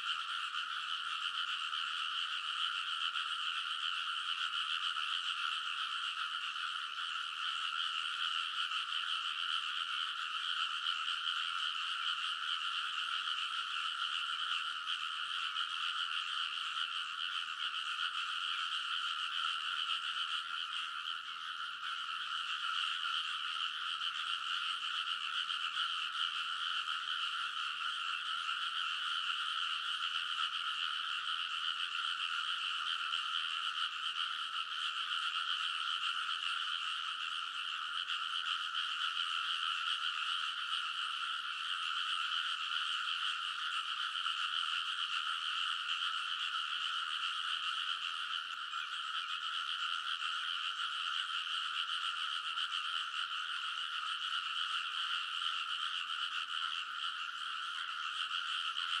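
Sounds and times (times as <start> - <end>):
chorus of frogs croaking: 0.0 - 59.0.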